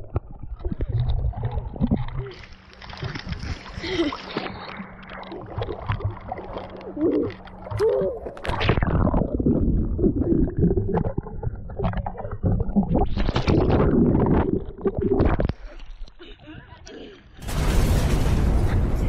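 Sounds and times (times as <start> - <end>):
water splashing: 0.0 - 15.8
underwater rumbling and bubbles: 0.0 - 16.2.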